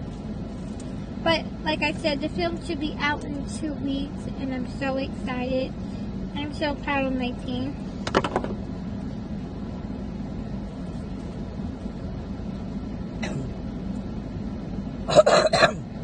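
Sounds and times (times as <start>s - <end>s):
car cabin hum with idling engine: 0.0s - 16.0s.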